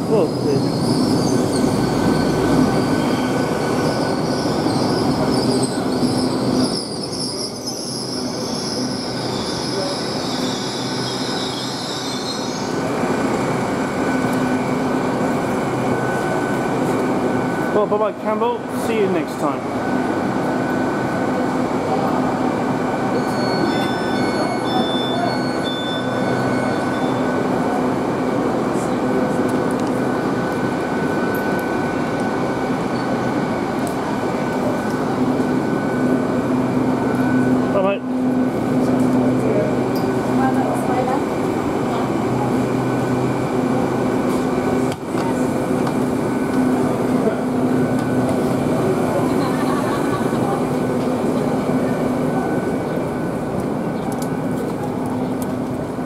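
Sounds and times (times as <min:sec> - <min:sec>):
train diesel engines idling: 0:00.0 - 0:56.0.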